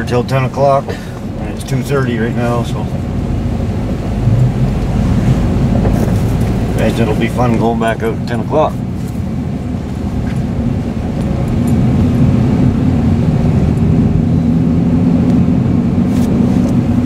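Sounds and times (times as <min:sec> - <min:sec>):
engine and road noise drone: 0:00.0 - 0:17.0.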